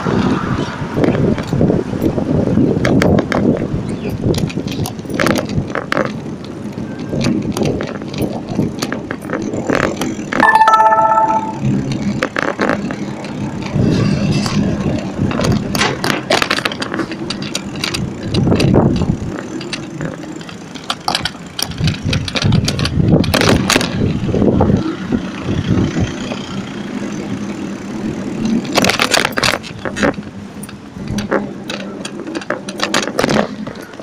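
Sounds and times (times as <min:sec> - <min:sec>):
bicycle rattling over pavement: 0:00.0 - 0:34.0.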